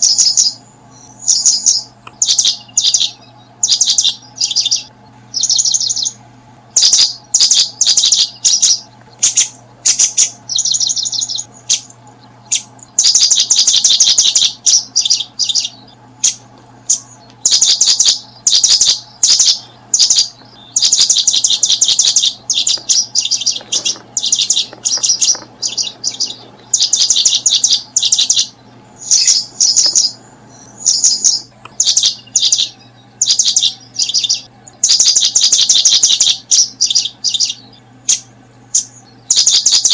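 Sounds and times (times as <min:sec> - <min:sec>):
faint low hum: 0:00.0 - 0:39.9
small birds chirping: 0:00.0 - 0:39.9.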